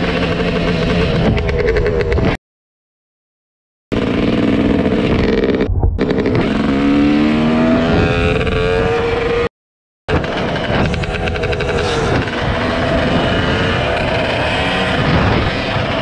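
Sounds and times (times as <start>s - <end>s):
dirt bike engine accelerating: 0.0s - 2.4s, 3.9s - 9.5s, 10.1s - 16.0s.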